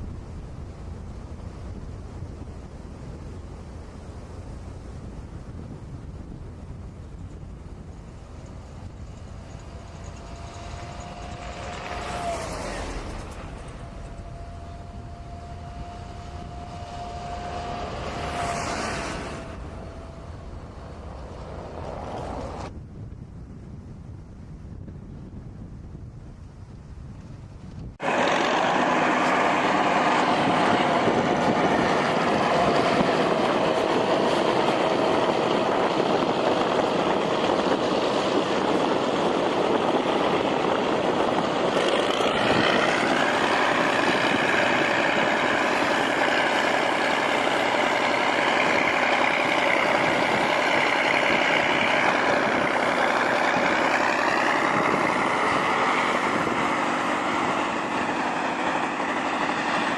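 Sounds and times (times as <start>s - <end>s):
heavy vehicle engine running: 0.0s - 22.7s, 27.8s - 59.9s.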